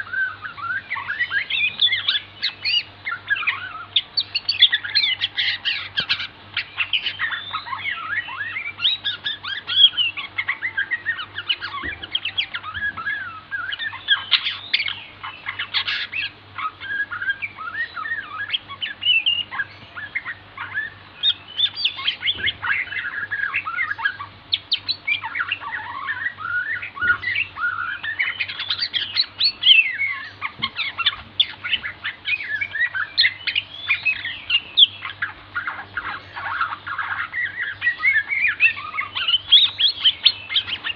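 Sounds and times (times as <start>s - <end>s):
bird singing whistles and chirps: 0.0s - 40.9s
faint low hum: 0.0s - 40.9s.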